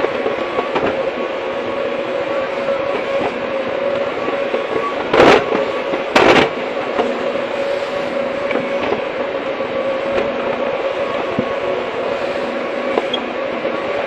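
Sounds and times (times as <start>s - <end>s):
excavator engine and whine: 0.0s - 14.0s.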